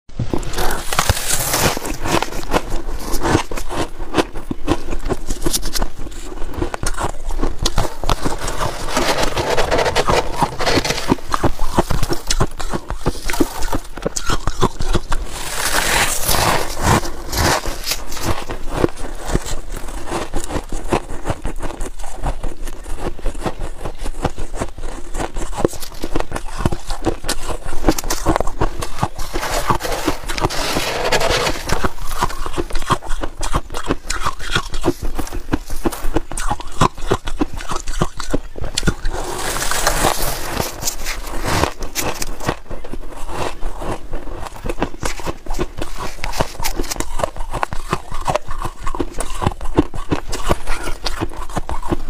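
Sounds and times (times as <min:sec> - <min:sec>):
frost crunching and crackling: 0:00.2 - 0:52.0
frost being chewed: 0:00.3 - 0:52.0.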